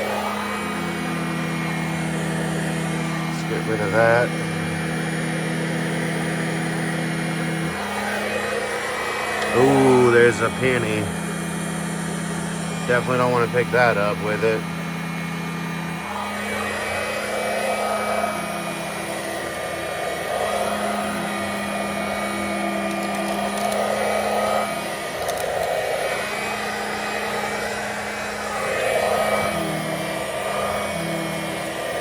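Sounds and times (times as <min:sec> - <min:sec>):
handheld vacuum running: 0:00.0 - 0:32.0.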